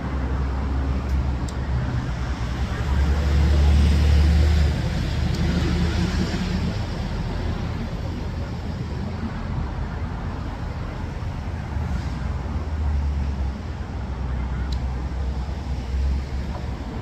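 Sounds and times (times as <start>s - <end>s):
hiss of passing traffic: 0.0s - 17.0s
vehicle rumble: 0.0s - 17.0s.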